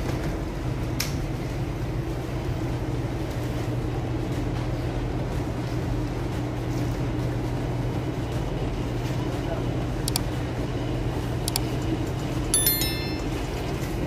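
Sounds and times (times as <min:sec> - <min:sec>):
refrigerated display cases humming: 0:00.0 - 0:14.0.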